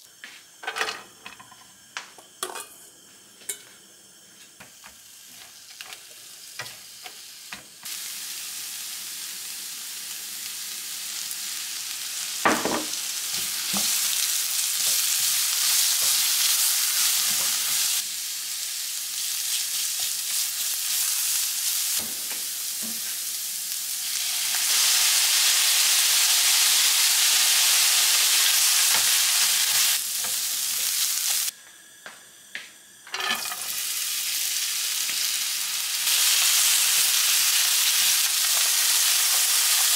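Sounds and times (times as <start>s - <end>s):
vegetables sizzling in a frying pan: 0.4s - 31.5s, 33.1s - 39.9s.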